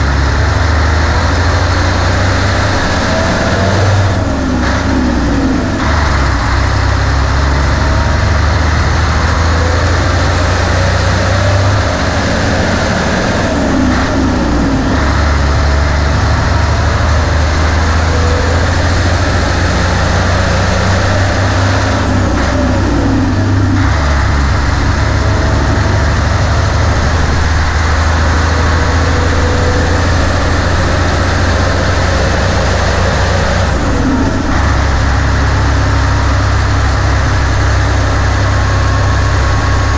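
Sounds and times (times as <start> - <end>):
diesel truck engine pulling hard: 0.0 - 39.9
high whine rising in pitch: 0.0 - 39.9.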